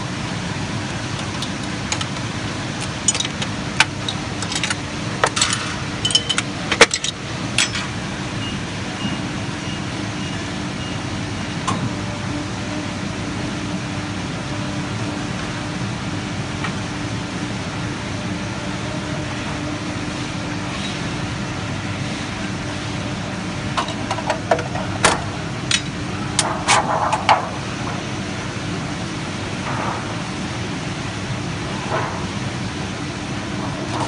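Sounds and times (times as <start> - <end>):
printing press mechanical hum: 0.0 - 34.0.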